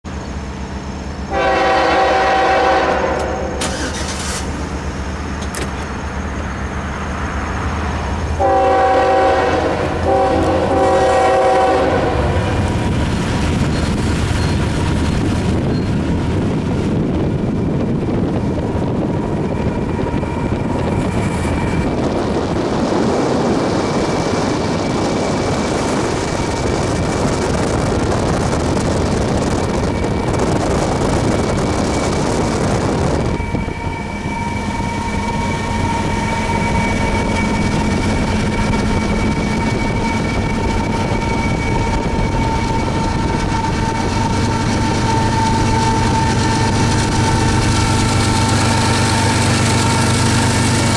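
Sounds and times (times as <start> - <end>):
freight train rumbling: 0.0 - 50.9
locomotive high whine: 0.1 - 50.9.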